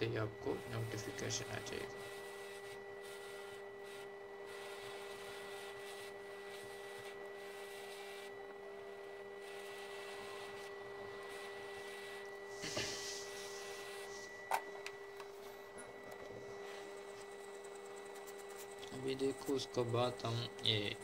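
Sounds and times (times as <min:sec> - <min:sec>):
electrical hum with high whine: 0:00.0 - 0:21.0.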